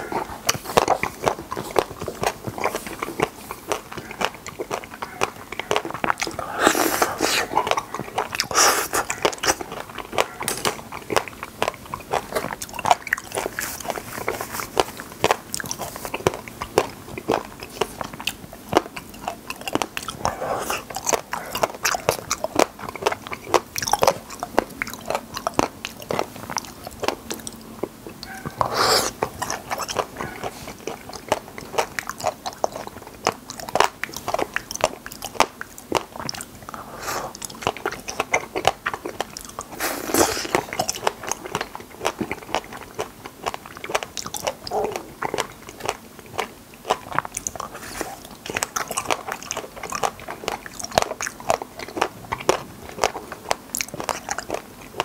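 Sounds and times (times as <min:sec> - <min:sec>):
chewing with mouth clicks and smacks: 0:00.0 - 0:55.0.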